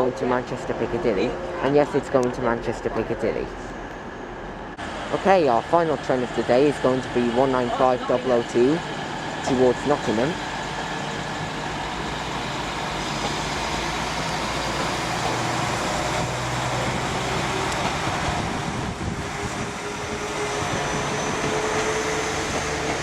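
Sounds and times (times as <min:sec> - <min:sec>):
train engine hum: 0:00.0 - 0:23.0.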